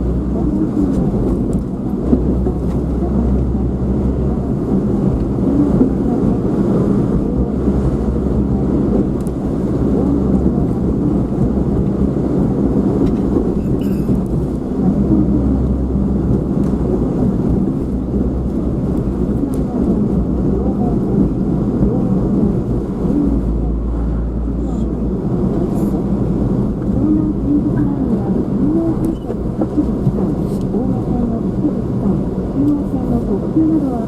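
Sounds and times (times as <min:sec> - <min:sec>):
muffled vehicle rumble: 0:00.0 - 0:34.0.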